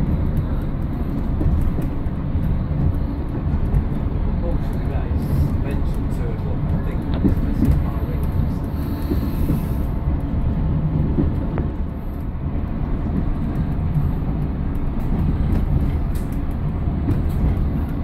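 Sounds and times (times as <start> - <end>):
diesel engine rumble: 0.0 - 18.0
train wheels on rails: 0.0 - 18.0.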